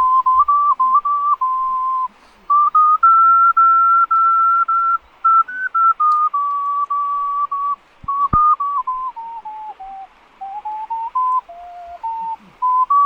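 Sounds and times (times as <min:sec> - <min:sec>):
ocarina melody: 0:00.0 - 0:13.0.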